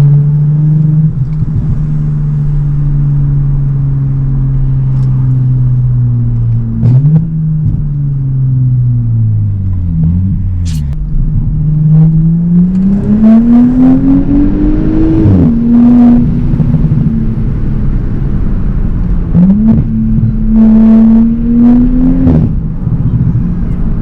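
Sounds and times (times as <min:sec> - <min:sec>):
loud car exhaust accelerating: 0:00.0 - 0:24.0.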